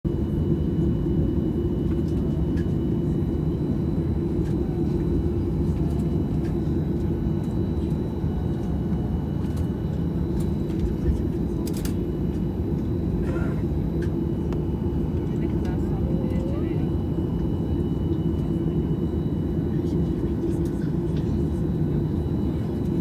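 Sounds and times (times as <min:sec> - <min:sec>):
jet engines rumbling: 0:00.2 - 0:23.0.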